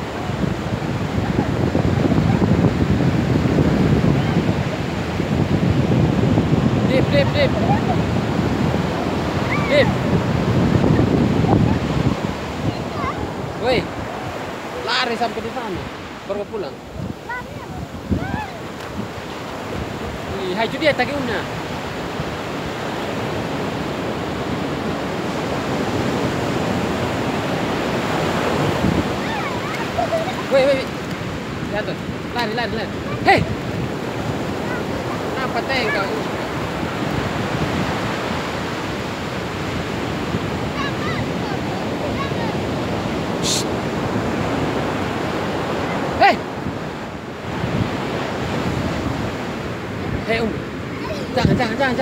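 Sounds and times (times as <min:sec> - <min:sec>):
ocean surf breaking: 0:00.0 - 0:52.0
wind buffeting microphone: 0:00.0 - 0:52.0.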